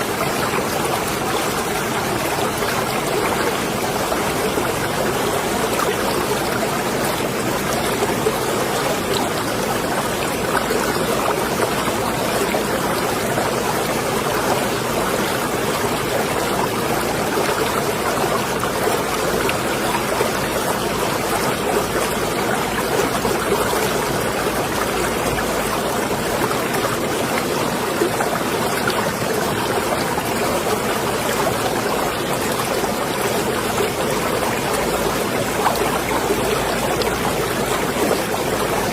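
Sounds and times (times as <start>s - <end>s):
water lapping and sloshing: 0.0s - 38.9s.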